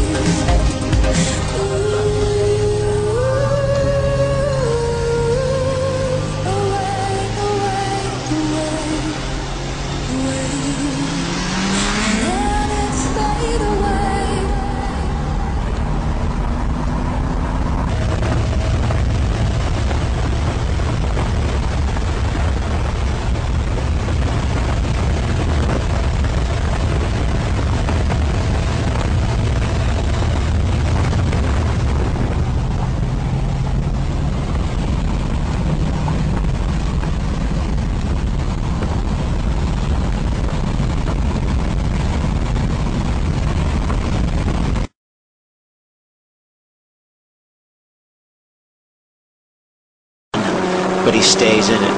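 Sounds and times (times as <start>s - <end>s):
faint engine drone: 0.0s - 44.2s, 50.4s - 51.9s
rushing wind noise: 0.0s - 44.9s.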